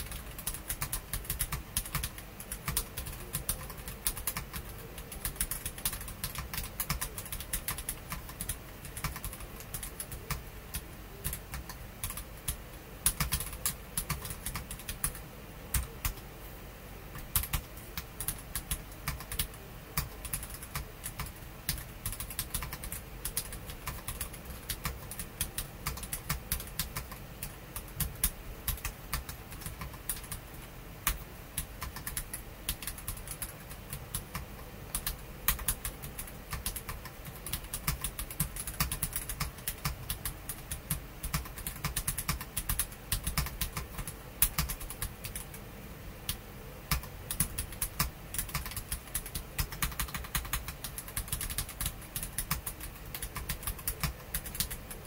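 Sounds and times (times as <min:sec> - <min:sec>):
fast mechanical keyboard typing: 0:00.0 - 0:16.2, 0:17.1 - 0:45.6, 0:46.3 - 0:55.0.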